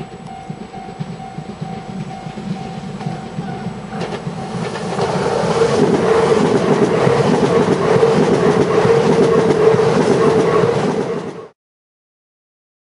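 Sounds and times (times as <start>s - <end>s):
wheels clicking over rail joints: 0.0s - 11.4s
train rushing past: 0.0s - 11.6s.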